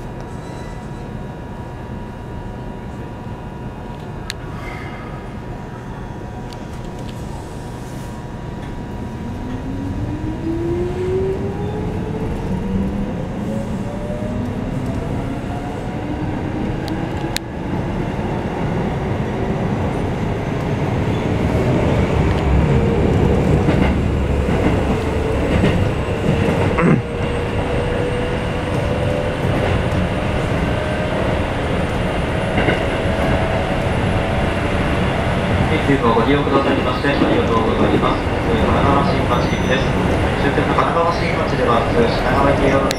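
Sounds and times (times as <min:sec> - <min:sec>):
wheel and rail rumble: 0:06.4 - 0:42.9.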